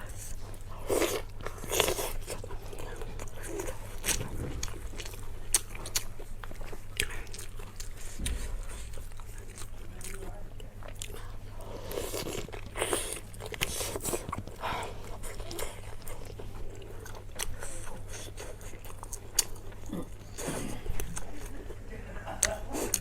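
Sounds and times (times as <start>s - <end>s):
person chewing and crunching: 0.0s - 23.0s
steady low hum: 0.0s - 23.0s.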